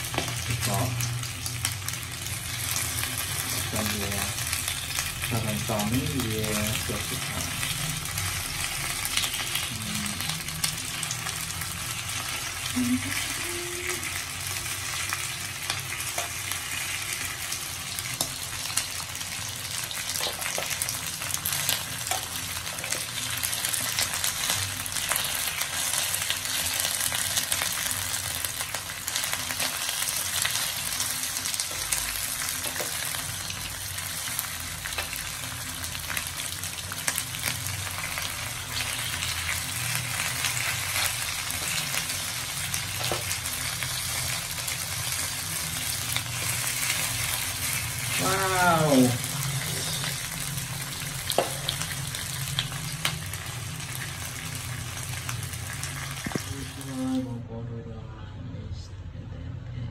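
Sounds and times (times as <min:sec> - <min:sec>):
cake frying in oil: 0:00.0 - 0:57.3.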